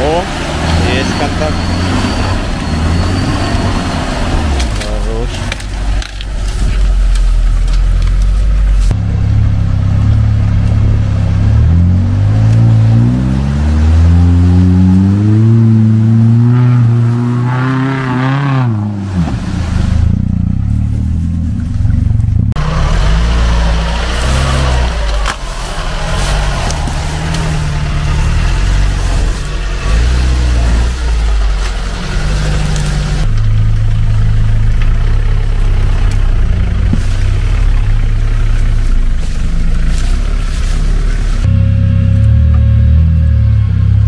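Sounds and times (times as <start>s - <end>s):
off-road engines revving: 0.0s - 44.0s
wheels churning through mud: 0.0s - 44.0s.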